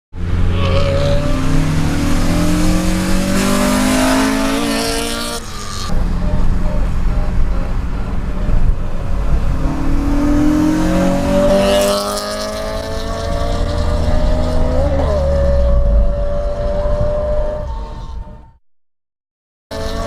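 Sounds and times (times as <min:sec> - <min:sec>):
car engine accelerating hard: 0:00.2 - 0:17.8.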